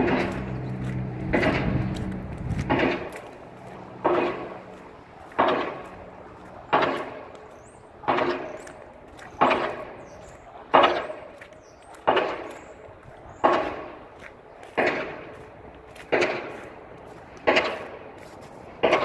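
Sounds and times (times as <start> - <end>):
distant pile driver hammer blows: 0.0 - 19.0.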